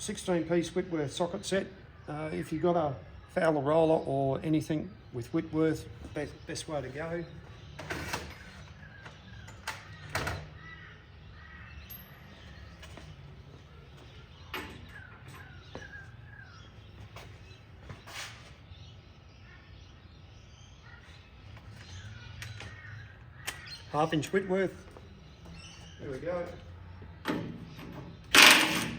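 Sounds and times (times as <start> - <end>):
birds calling: 0.0 - 28.9.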